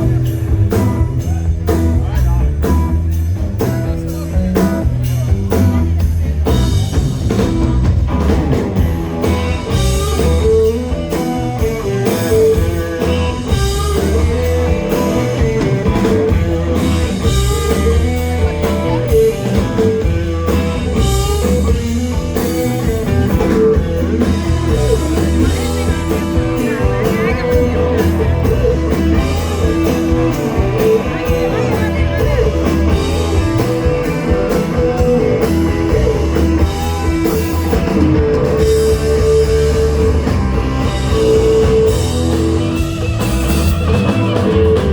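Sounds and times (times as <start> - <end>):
rock music with electric guitar: 0.0 - 44.9.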